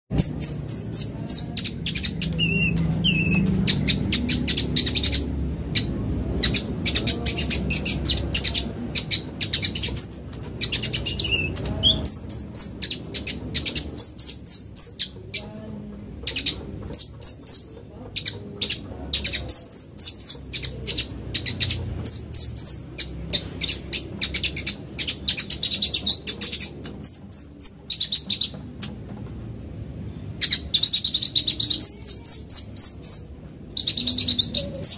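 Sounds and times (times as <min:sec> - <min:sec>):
bird singing high chirps and trills: 0:00.1 - 0:29.0, 0:30.1 - 0:34.9.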